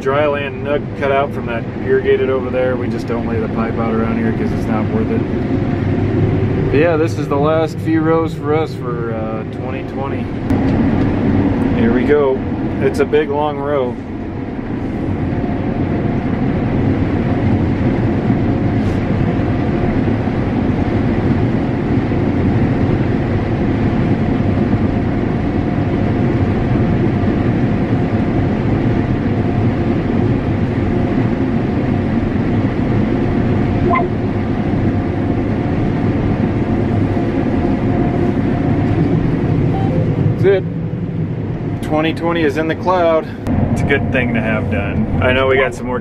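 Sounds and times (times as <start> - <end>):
combine harvester engine drone: 0.0 - 46.0
faint steady whine: 0.0 - 46.0.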